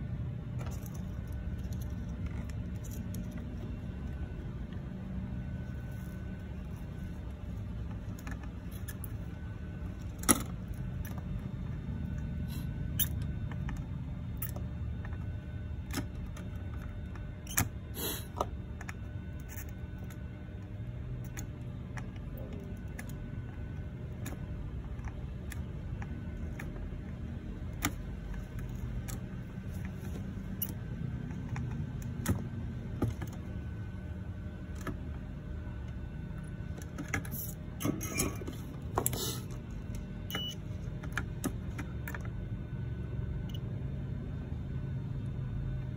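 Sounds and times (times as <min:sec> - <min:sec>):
low background hum: 0:00.0 - 0:45.9.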